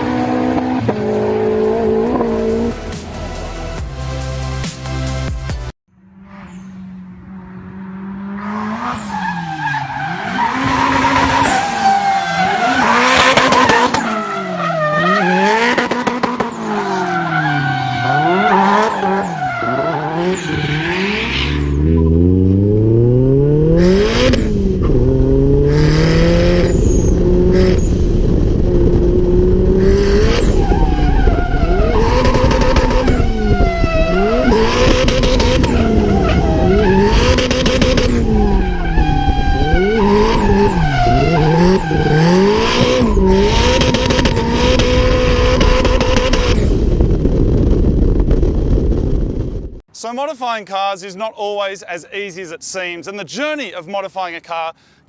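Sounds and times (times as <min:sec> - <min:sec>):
race engine revving: 0:00.0 - 0:03.7, 0:06.1 - 0:46.9.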